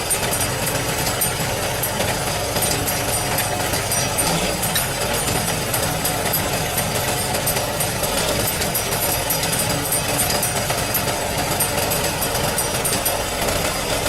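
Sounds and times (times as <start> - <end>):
diesel machinery running: 0.0 - 14.0
rapid rattling clatter: 0.0 - 14.0.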